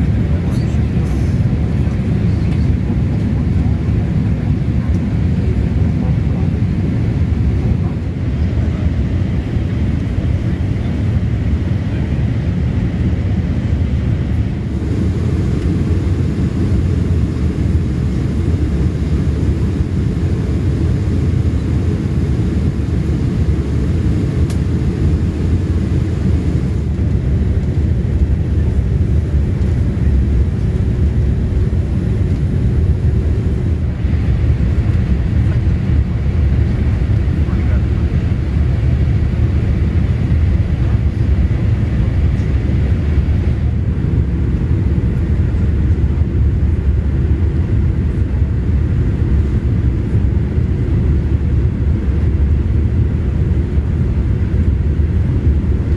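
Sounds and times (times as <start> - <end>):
airflow: 0.0 - 46.8
airplane cabin engine rumble: 0.0 - 55.9.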